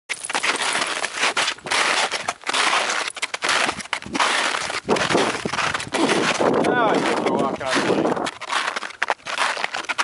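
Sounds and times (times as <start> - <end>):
footsteps crunching in snow: 0.1 - 10.0.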